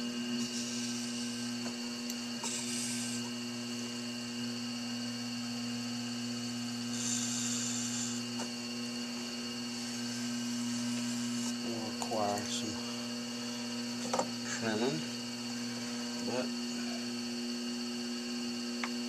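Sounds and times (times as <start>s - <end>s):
potter's wheel motor humming: 0.0s - 19.0s.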